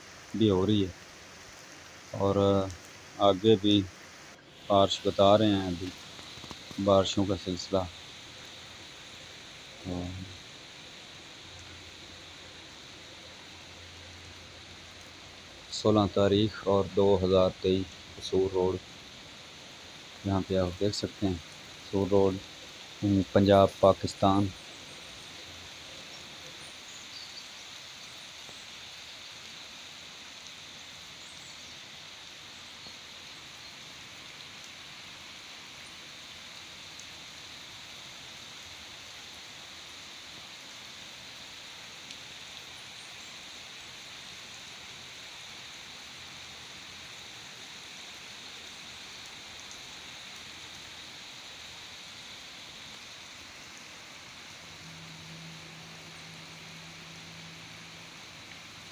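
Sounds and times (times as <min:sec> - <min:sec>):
heavy rain on standing water: 0:00.0 - 0:58.9.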